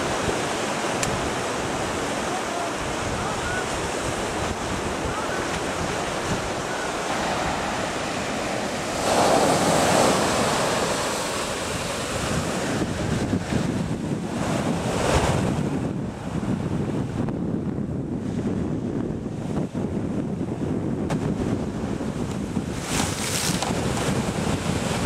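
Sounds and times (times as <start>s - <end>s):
waves breaking on beach: 0.0s - 16.4s, 21.2s - 25.0s
wind buffeting microphone: 0.0s - 25.0s.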